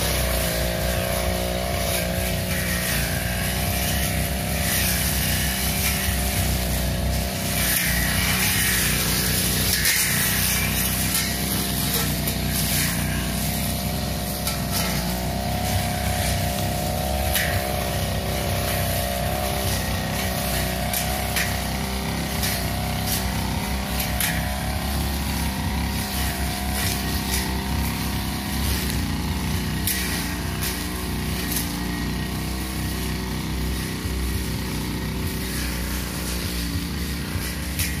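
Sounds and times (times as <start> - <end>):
blade cutting grass: 0.0 - 38.0
brush cutter engine running: 0.0 - 38.0.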